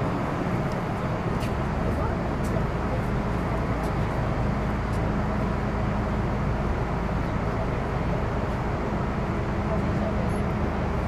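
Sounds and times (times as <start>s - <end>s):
train cabin rumble and hiss: 0.0s - 11.0s.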